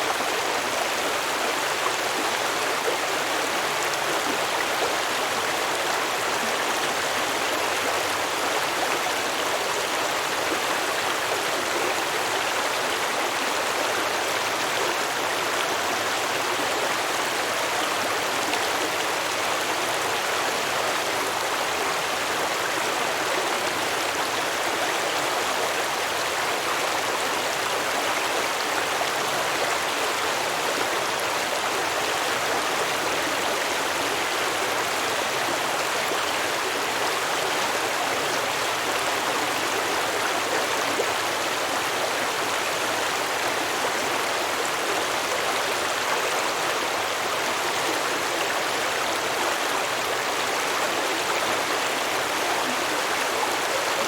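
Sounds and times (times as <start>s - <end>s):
stream babbling over rocks: 0.0s - 54.0s.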